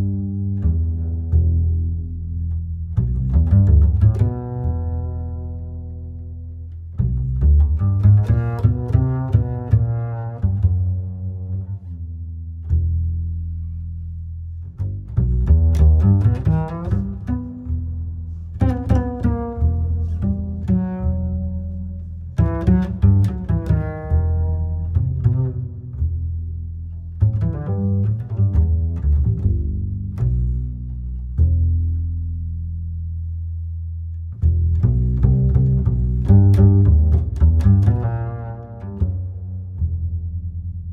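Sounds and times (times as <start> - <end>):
plucked and bowed strings music: 0.0 - 40.9.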